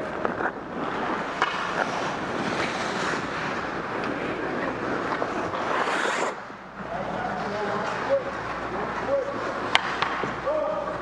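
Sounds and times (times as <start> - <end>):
skate blades scraping ice: 0.0 - 10.6.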